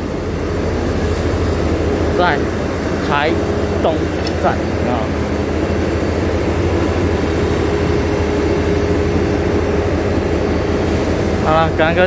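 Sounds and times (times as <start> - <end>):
locomotive engine idling: 0.0 - 12.0.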